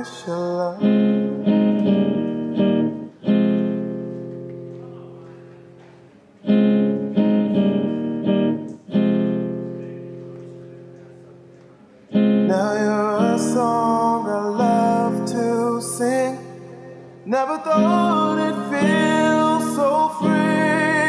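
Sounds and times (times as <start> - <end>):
classical guitar strummed: 0.0 - 21.0.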